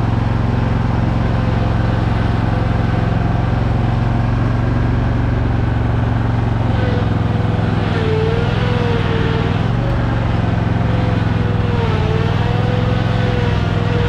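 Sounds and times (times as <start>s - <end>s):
mower engine running: 0.0s - 14.0s.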